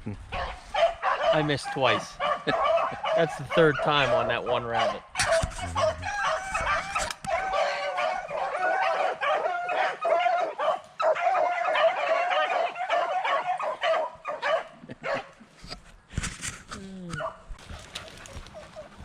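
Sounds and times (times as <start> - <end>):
dogs baying: 0.3 - 15.3, 17.2 - 19.0.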